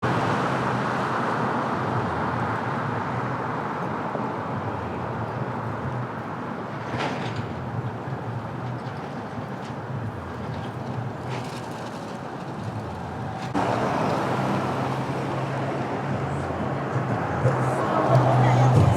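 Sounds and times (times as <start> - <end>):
rushing vehicle rumble: 0.0 - 18.9.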